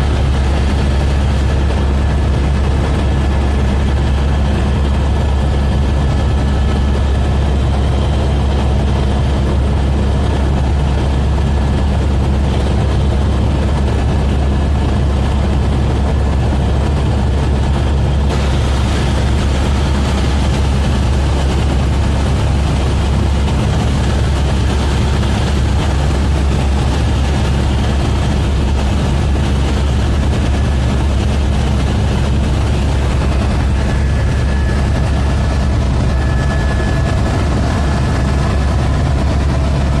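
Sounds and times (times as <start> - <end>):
helicopter rotor and engine drone: 0.0 - 40.0.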